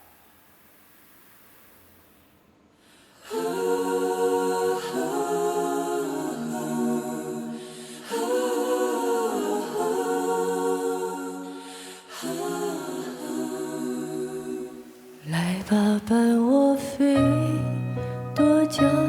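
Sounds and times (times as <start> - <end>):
voices singing in close harmony: 3.2 - 19.0.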